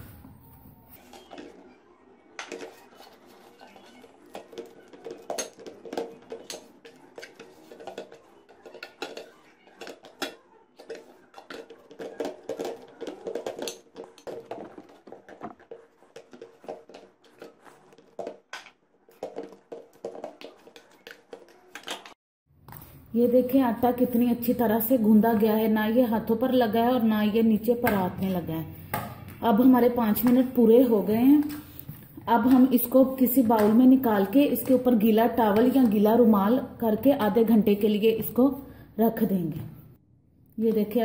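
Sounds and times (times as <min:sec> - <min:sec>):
dough kneaded in a metal bowl: 0:00.0 - 0:22.2, 0:22.8 - 0:38.6.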